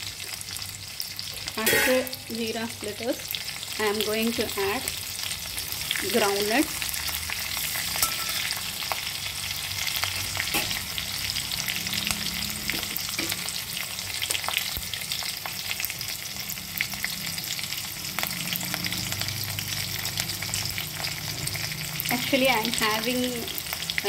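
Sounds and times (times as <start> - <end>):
seeds sizzling in hot oil: 0.0 - 24.0.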